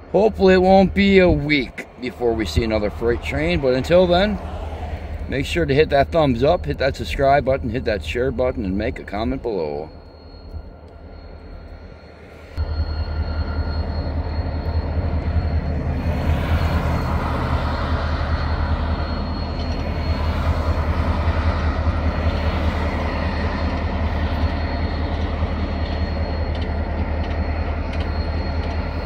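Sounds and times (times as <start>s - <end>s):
diesel locomotive engine rumble: 0.0s - 29.0s
mechanical and rail noise: 0.0s - 29.0s.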